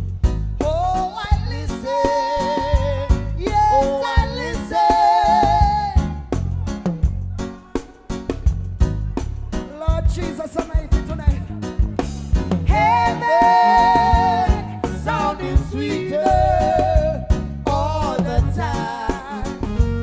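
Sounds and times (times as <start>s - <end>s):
drum kit: 0.0s - 20.0s
reggae band playing: 0.0s - 20.0s.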